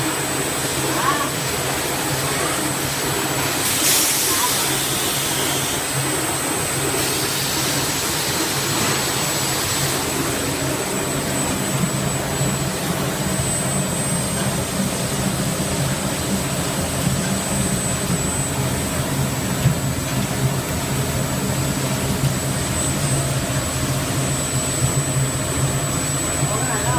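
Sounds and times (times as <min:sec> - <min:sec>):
machine hum with high whine: 0:00.0 - 0:26.9.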